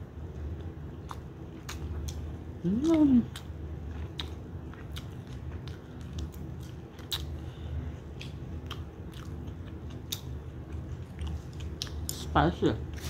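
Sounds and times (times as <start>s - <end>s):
chewing: 0.6s - 7.4s, 8.1s - 12.3s.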